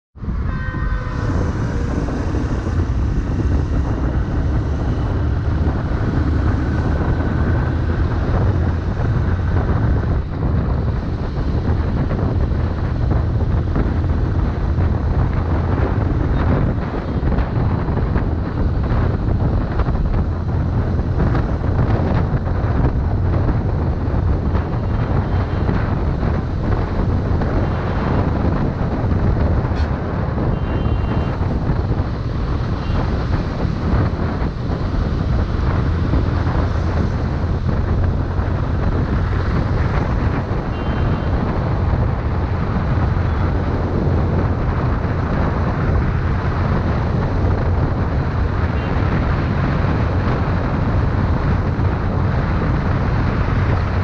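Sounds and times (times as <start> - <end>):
wind rushing over microphone: 0.1 - 54.0
motorcycle engine rumbling: 0.2 - 54.0.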